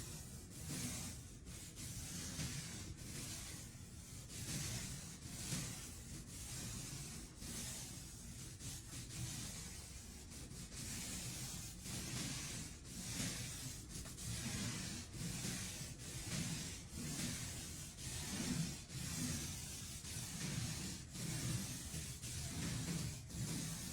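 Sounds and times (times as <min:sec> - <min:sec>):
gritty rubbing strokes: 0:00.0 - 0:23.9.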